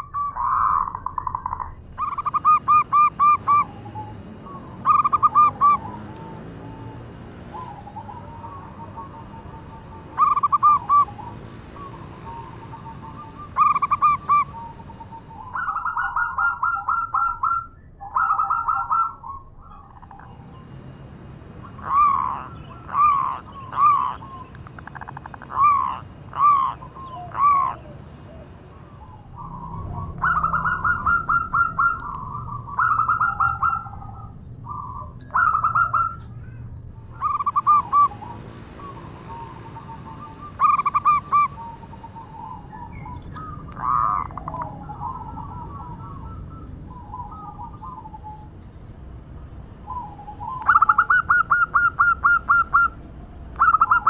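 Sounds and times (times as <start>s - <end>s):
dove calling: 0.0s - 20.7s, 21.4s - 48.9s, 49.7s - 54.0s.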